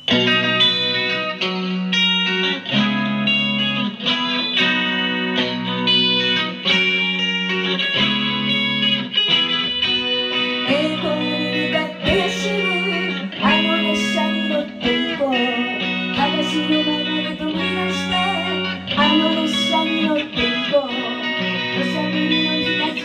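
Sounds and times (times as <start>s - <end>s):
electric guitar chords: 0.0s - 23.0s.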